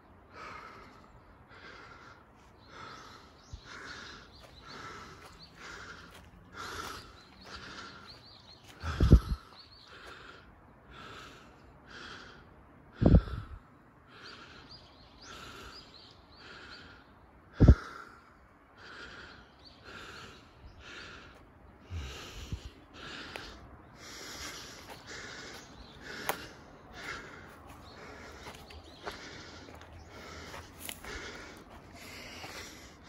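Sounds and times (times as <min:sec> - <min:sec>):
person breathing hard: 0:00.1 - 0:33.0.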